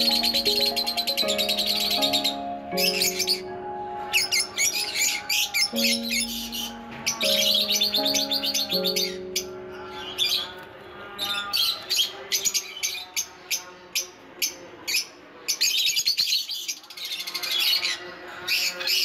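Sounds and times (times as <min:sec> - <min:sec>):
lovebirds chirping: 0:00.0 - 0:19.0.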